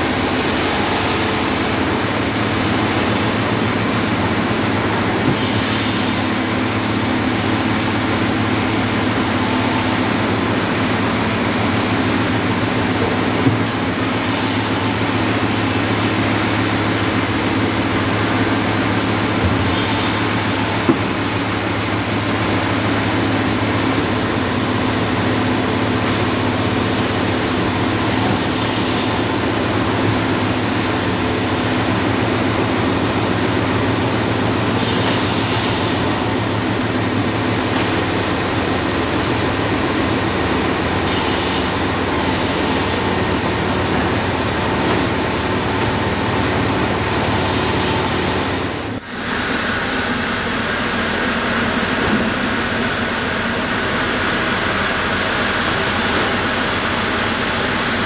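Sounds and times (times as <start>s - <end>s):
band sawmill running: 0.0s - 58.0s.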